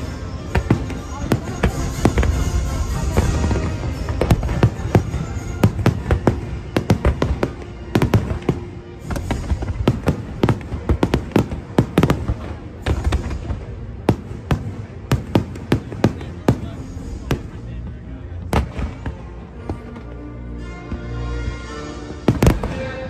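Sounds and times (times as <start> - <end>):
fireworks bangs and pops: 0.0 - 20.2, 22.3 - 22.9
music: 0.0 - 23.0.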